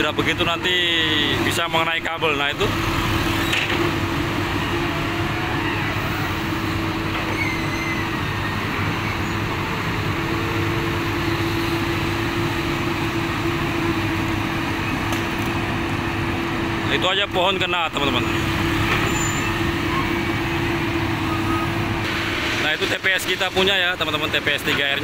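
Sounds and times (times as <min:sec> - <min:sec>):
excavator diesel engine under load: 0:00.0 - 0:25.0.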